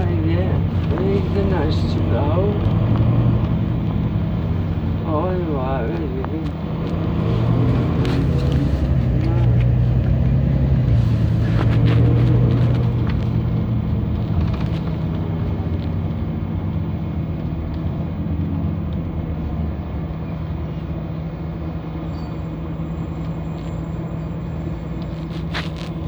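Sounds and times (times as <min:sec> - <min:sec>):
bus engine drone: 0:00.0 - 0:26.0.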